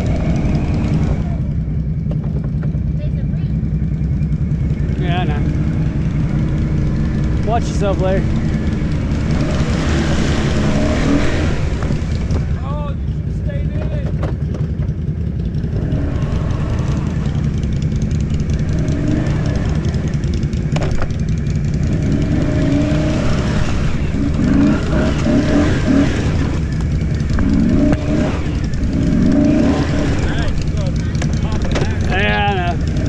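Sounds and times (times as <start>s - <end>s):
atv engine revving: 0.0s - 33.0s.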